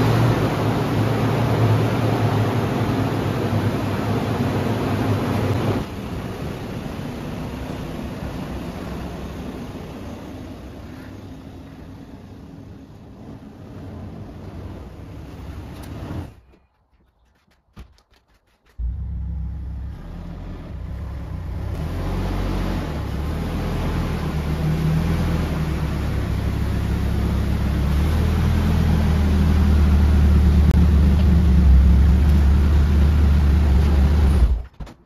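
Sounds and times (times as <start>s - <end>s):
car engine running: 0.0s - 16.6s, 18.7s - 34.7s.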